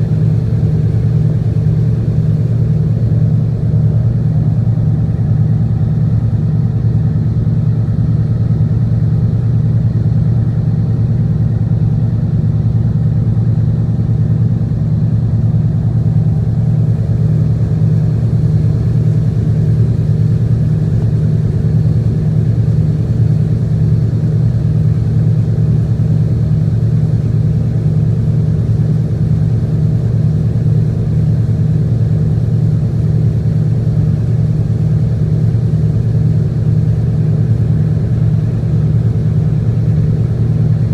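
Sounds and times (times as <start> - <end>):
tugboat engine droning: 0.0 - 40.9.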